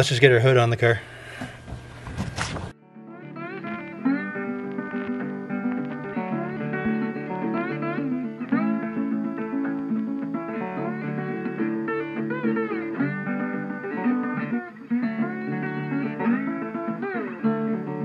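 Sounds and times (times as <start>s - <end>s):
guitar music with bending notes: 2.7s - 18.0s.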